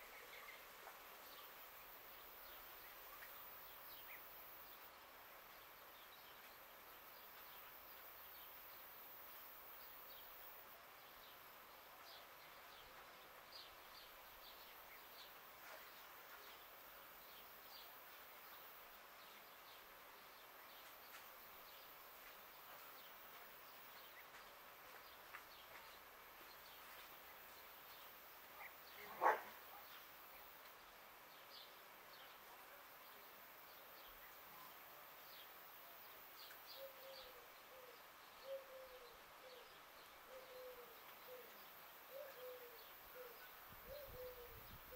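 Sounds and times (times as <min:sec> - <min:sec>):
steady hiss: 0:00.0 - 0:44.9
birds chirping: 0:05.6 - 0:44.9.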